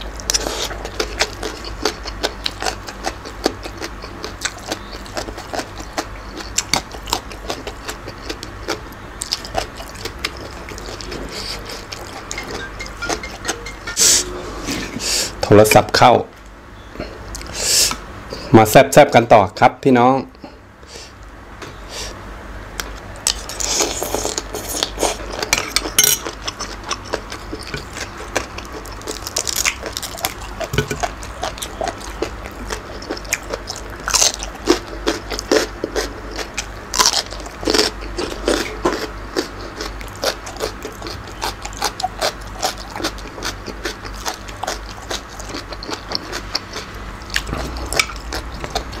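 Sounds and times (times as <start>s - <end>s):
chewing and crunching food: 0.0s - 13.1s, 22.8s - 49.0s.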